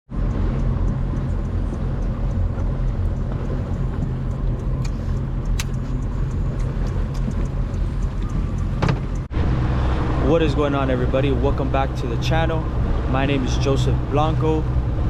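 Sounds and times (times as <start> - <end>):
engine low rumble: 0.1 - 15.0.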